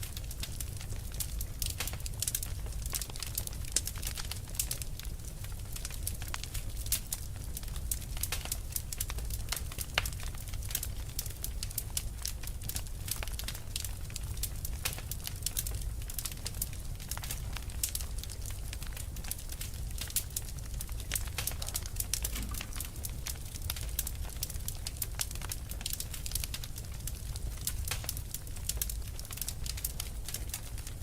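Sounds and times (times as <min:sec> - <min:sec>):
fire crackling: 0:00.0 - 0:31.0.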